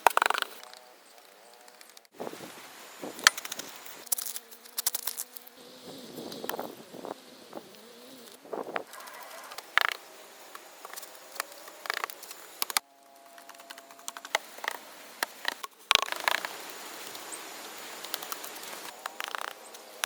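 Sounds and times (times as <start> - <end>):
faint steady hiss: 0.7 - 20.0.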